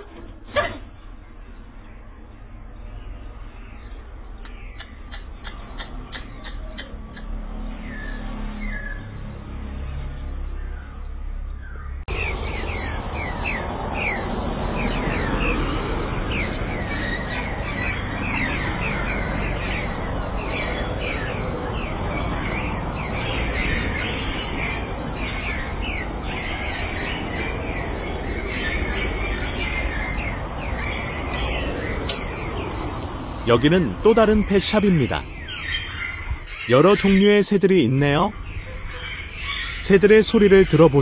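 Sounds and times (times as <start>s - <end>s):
caged birds chirping: 0.0s - 41.0s.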